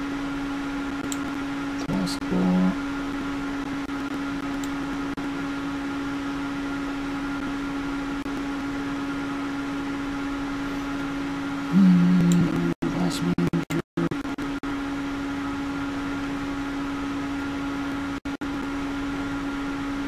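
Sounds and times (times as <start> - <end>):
computer fans whining hum: 0.0 - 20.0
lower fan tone: 0.0 - 20.0.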